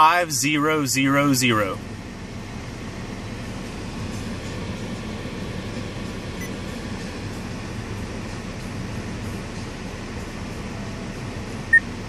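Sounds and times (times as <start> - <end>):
car engine: 0.0 - 12.0
road noise inside car cabin: 0.0 - 12.0.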